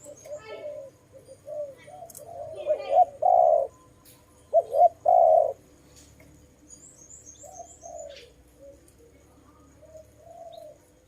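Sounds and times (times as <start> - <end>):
dove cooing: 0.0 - 5.7, 7.4 - 11.0
small bird chirping: 0.0 - 11.0.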